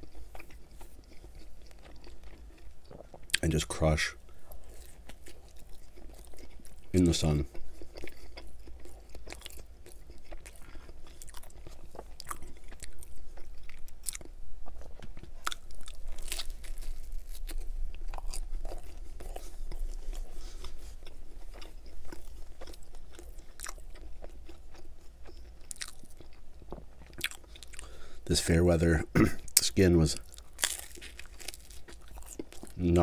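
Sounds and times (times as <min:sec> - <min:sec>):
wet chewing: 0:00.0 - 0:03.6, 0:04.3 - 0:28.1, 0:29.4 - 0:33.0
pizza crunching: 0:00.0 - 0:33.0.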